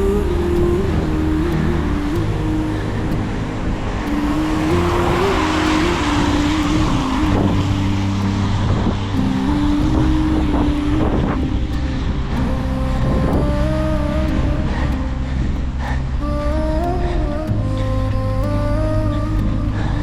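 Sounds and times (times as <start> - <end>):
motor vehicles running: 0.0 - 16.7.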